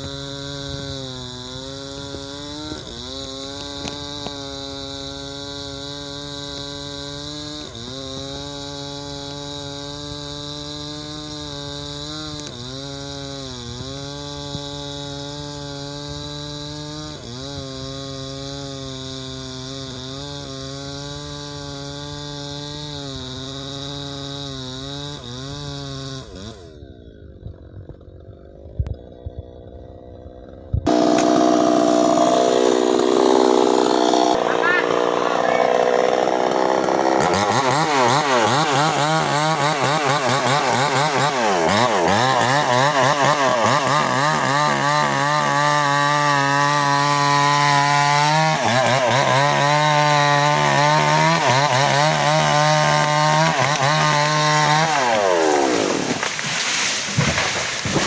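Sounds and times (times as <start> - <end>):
chainsaw cutting into tree: 0.0 - 58.0.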